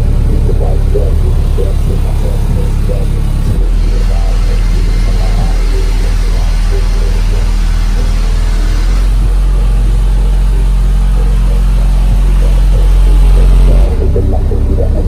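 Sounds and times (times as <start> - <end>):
subwoofer playing deep bass music: 0.0 - 15.0.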